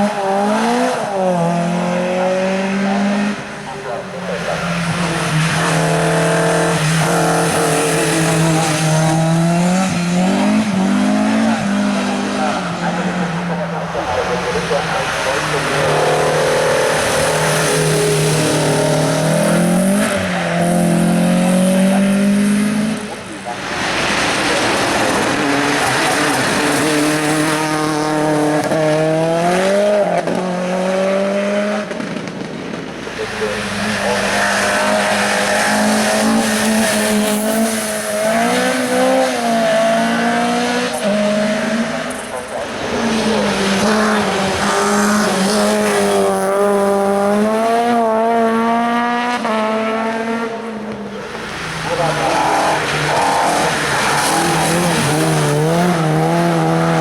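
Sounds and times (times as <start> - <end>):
race car engine accelerating: 0.0 - 32.2, 32.8 - 57.0.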